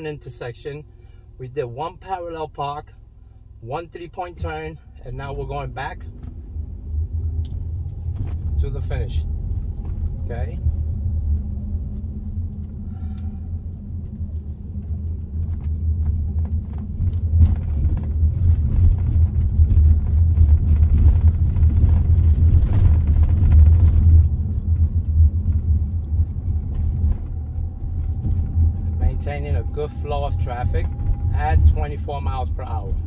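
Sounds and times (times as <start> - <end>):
car engine and tyre road noise: 0.0 - 33.0.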